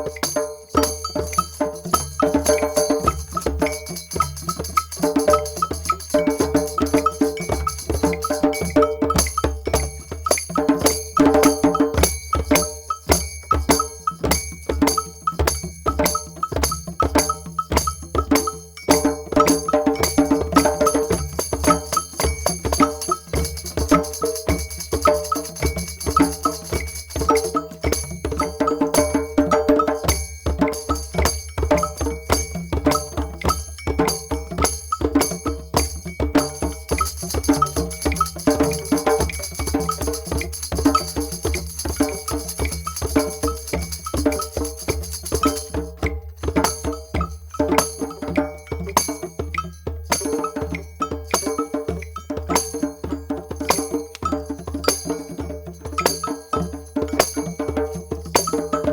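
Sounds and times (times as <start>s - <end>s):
group of drums playing: 0.0s - 58.9s
jingling bells: 0.0s - 58.9s.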